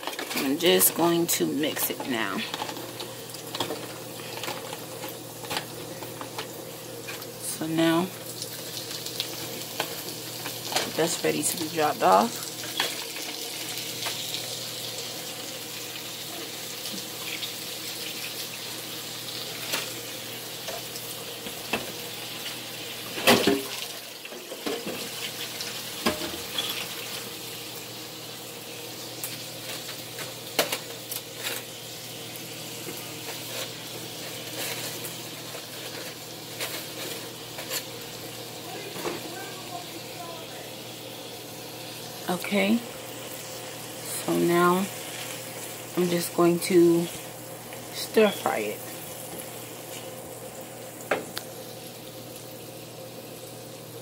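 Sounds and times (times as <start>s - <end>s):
food sizzling in pans: 0.0s - 54.0s.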